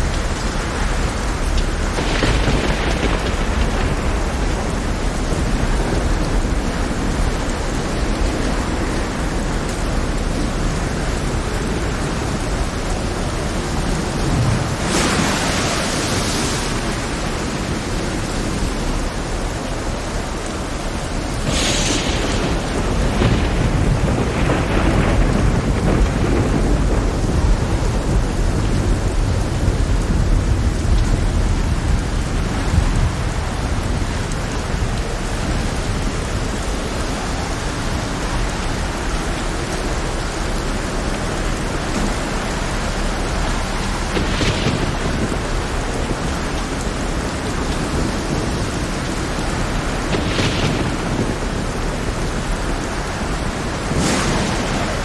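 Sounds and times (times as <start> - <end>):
heavy rain: 0.0 - 55.0
low thunder rumbling: 0.0 - 55.0.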